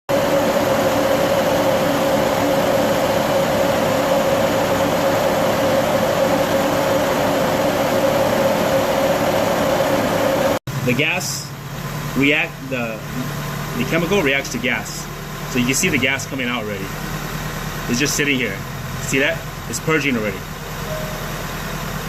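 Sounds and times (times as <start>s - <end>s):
car engine idling: 0.2s - 22.0s.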